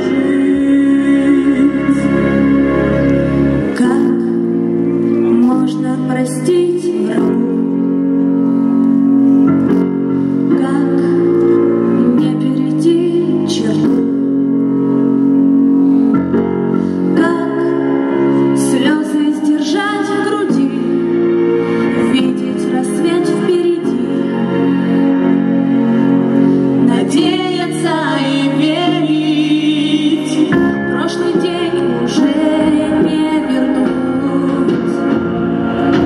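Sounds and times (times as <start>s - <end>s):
woman singing into microphone: 0.0s - 8.8s, 10.4s - 14.7s, 17.1s - 25.4s, 26.8s - 36.0s
backing track with keyboard chords: 0.0s - 36.0s.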